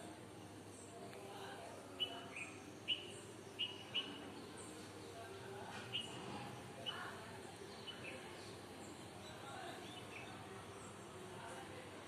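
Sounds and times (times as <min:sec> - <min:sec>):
neighbourhood background noise: 0:00.0 - 0:12.0
small birds chirping: 0:00.4 - 0:11.8.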